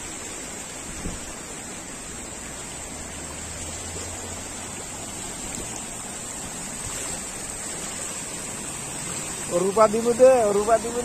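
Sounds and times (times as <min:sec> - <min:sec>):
floodwater rushing and churning: 0:00.0 - 0:11.0.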